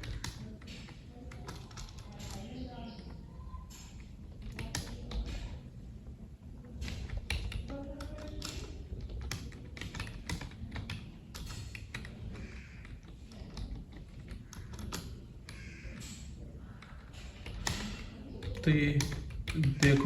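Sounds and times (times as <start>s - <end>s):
computer keyboard keys clacking: 0.0s - 5.6s, 6.7s - 20.0s.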